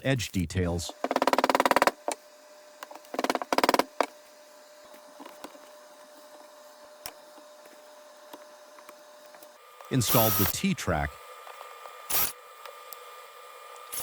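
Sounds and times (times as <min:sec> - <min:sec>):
handheld power tool buzzing: 0:00.8 - 0:14.0.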